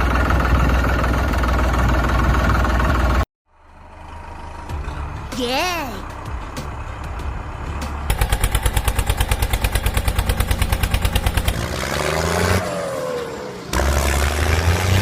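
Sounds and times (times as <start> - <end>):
engine chugging and revving: 0.0 - 15.0.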